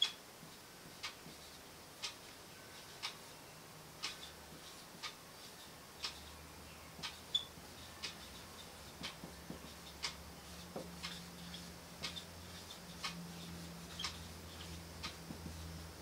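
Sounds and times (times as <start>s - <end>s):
clock ticking faintly: 0.0s - 6.4s, 7.0s - 16.0s
low steady hum: 0.0s - 16.0s
marker scratching on whiteboard: 0.4s - 3.4s, 4.0s - 16.0s.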